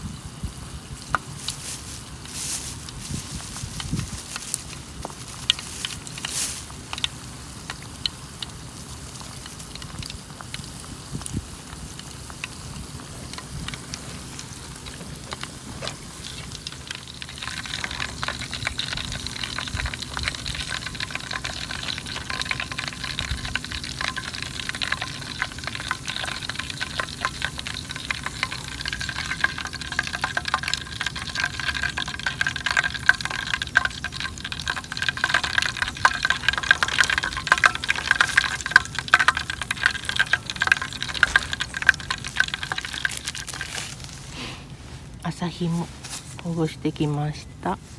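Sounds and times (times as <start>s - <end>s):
shrimp frying in hot oil: 0.0s - 44.5s.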